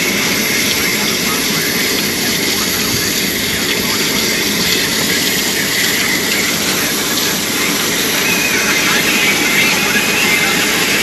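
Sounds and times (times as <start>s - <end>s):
hose spraying water: 0.0s - 11.0s.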